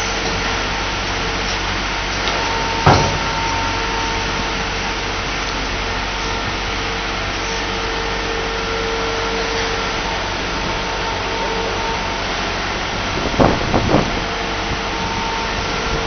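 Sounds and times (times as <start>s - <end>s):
diesel engine running under load: 0.0s - 16.0s
faint whine: 1.4s - 16.0s.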